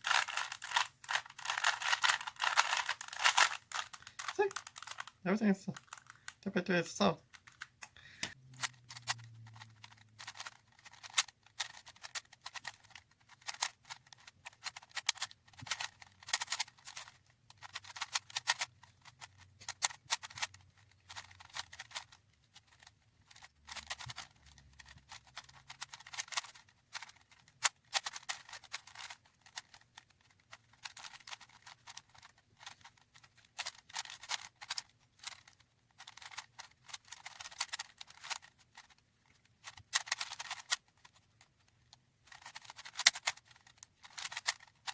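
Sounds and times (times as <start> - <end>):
puzzle cube layers clicking: 0.0 - 44.9.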